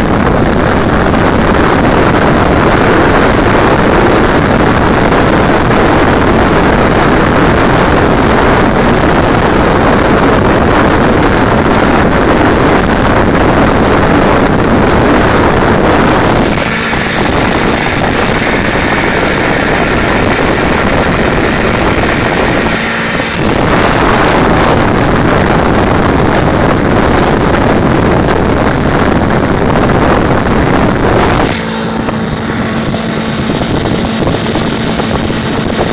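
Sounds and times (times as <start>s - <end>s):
low motorcycle engine hum: 0.0s - 35.9s
wind rushing over microphone: 0.0s - 35.9s.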